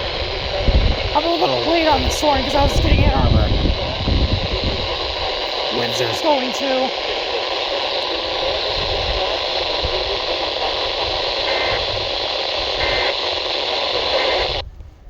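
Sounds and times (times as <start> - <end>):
radio static hiss: 0.0 - 14.7.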